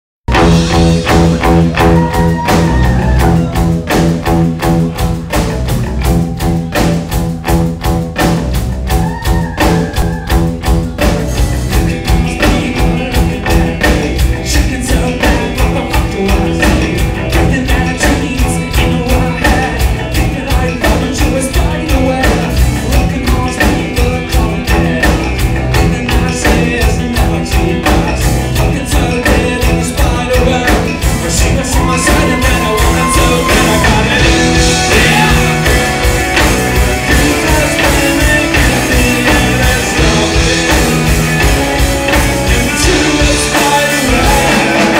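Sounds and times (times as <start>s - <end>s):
fast drum beat: 0.3s - 44.9s
rock band playing: 0.3s - 44.9s.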